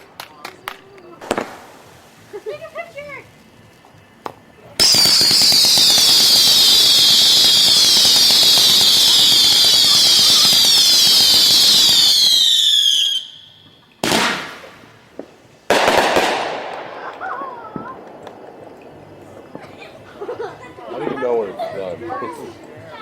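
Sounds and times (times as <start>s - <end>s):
loud firework bangs: 0.0s - 3.1s, 4.2s - 20.7s
rapid crackling pops: 0.0s - 20.7s
falling firework whistles: 0.0s - 20.8s.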